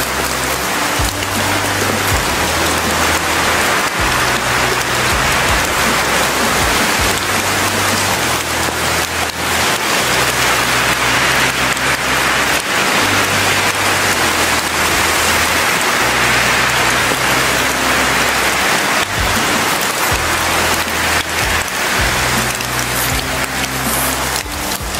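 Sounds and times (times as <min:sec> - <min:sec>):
deep held low notes: 0:00.0 - 0:24.9
loud steady rain: 0:00.0 - 0:24.9.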